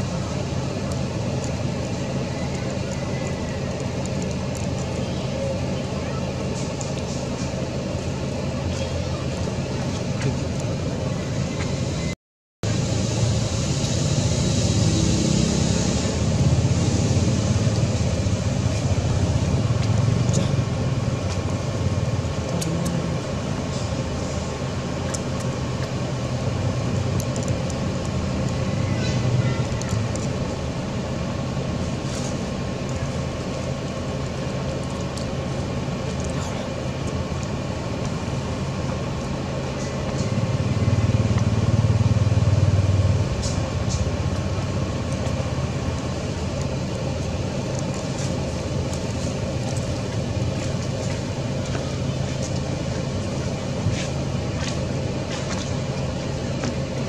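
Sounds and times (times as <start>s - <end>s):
low rumbling background noise: 0.0s - 57.0s.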